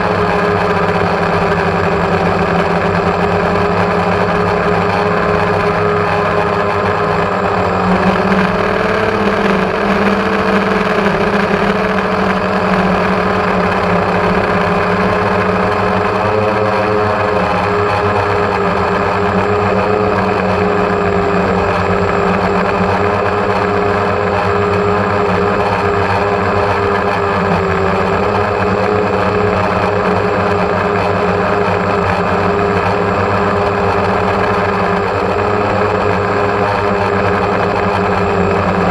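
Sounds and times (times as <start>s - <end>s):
drone propellers whirring: 0.0s - 38.9s.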